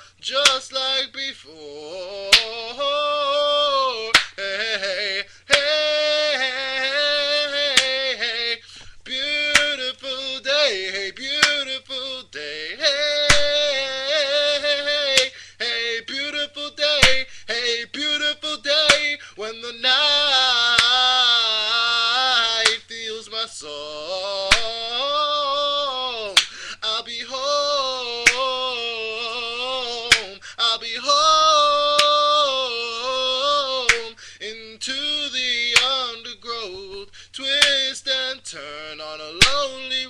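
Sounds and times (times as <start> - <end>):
man singing wordlessly: 0.0 - 40.0.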